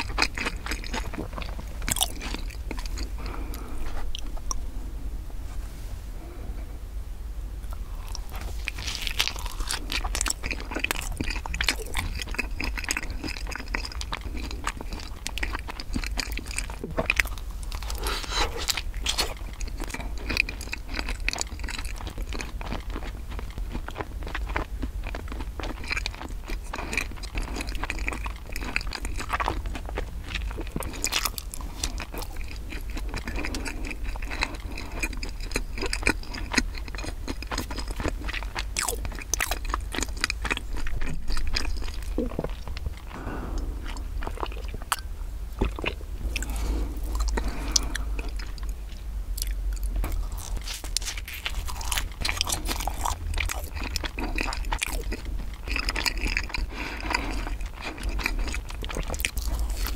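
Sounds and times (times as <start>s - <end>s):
chewing and biting bread: 0.0s - 4.6s, 7.7s - 59.9s
small crunches and mouth clicks: 0.0s - 4.6s, 7.7s - 59.9s
steady low hum: 0.0s - 59.9s.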